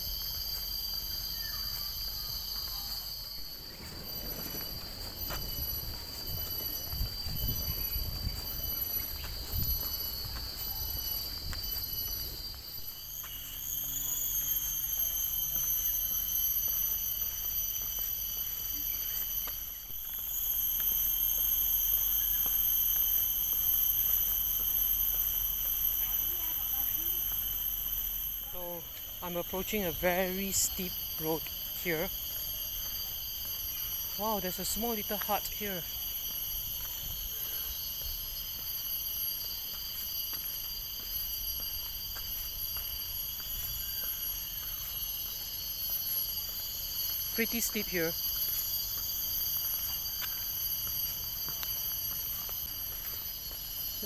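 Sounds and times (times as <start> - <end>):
crickets chirping chorus: 0.0 - 54.0.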